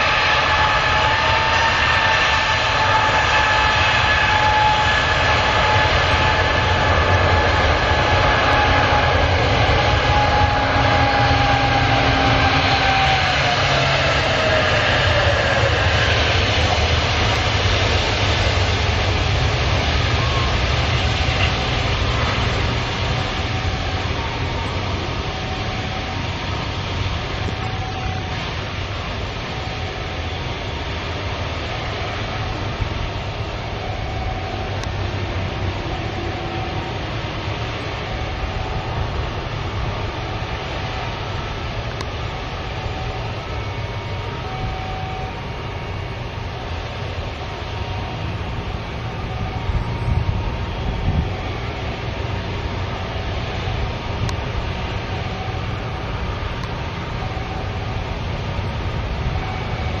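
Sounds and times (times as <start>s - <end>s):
jet engines idling: 0.0s - 60.0s.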